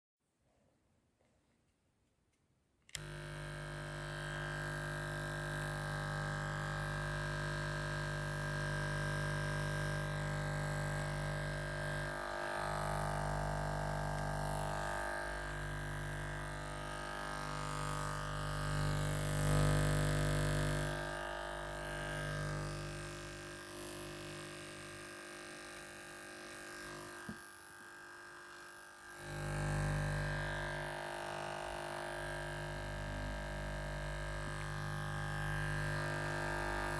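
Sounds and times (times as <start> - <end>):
electric shaver buzzing: 2.9 - 36.9.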